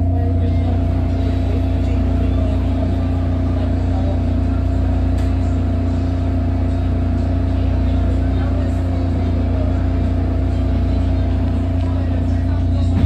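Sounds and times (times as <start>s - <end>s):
train car rumble and hum: 0.0s - 13.0s.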